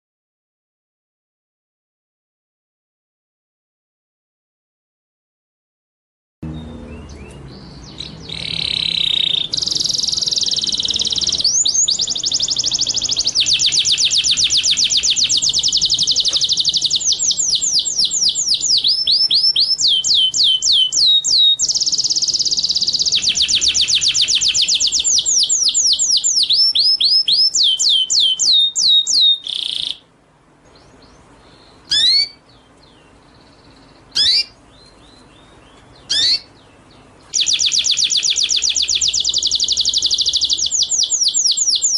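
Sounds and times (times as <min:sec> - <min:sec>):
songbird trilling: 0:06.5 - 0:30.0, 0:30.7 - 0:41.9
sharp upslurred bird calls: 0:06.5 - 0:30.1, 0:30.7 - 0:41.9.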